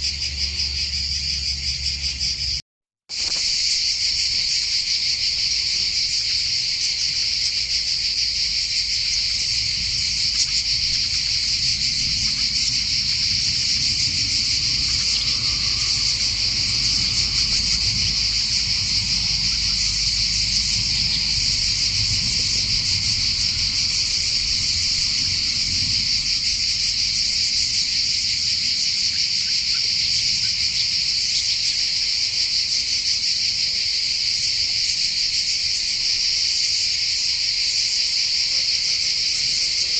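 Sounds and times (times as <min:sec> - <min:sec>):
insects buzzing drone: 0:00.0 - 0:39.9.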